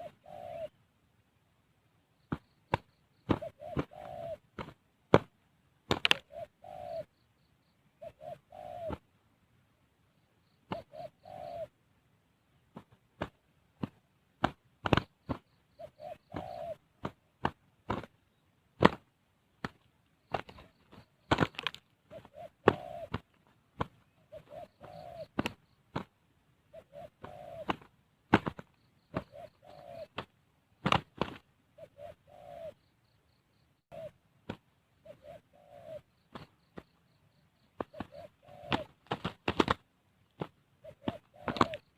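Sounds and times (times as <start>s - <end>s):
dove cooing: 0.0s - 0.8s, 2.3s - 5.3s, 5.9s - 9.2s, 10.5s - 11.8s, 12.8s - 19.0s, 19.6s - 41.9s.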